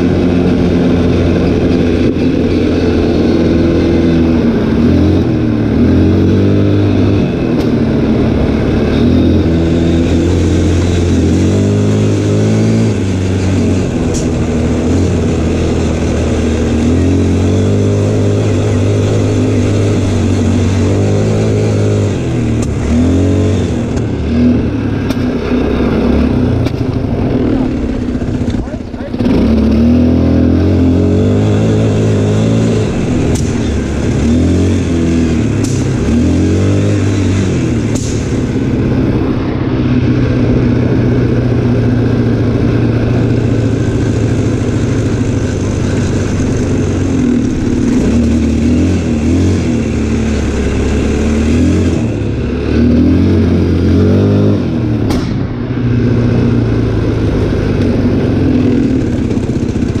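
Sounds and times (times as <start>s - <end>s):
atv engine revving: 0.0s - 60.0s.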